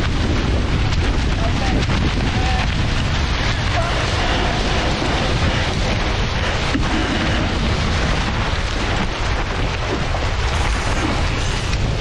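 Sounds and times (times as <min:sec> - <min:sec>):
water rushing along hulls: 0:00.0 - 0:12.0
wind blasting microphone: 0:00.0 - 0:12.0.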